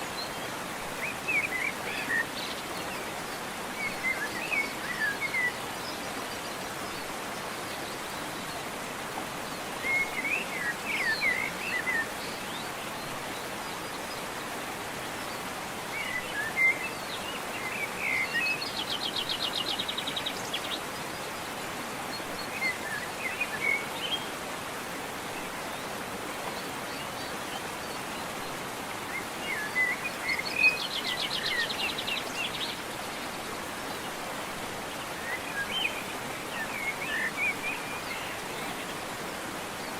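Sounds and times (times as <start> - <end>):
birdsong chirping and trills: 0.0 - 39.9
waterfall rushing: 0.0 - 39.9.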